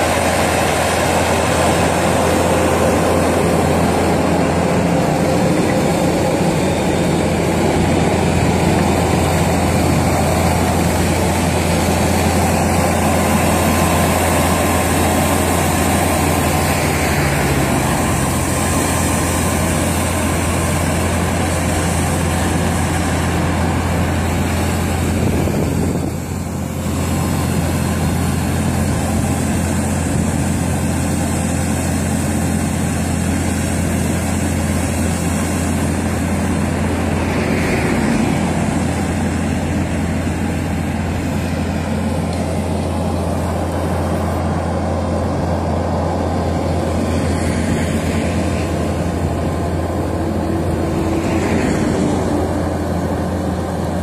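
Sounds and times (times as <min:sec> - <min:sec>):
loader engine running: 0:00.0 - 0:54.0.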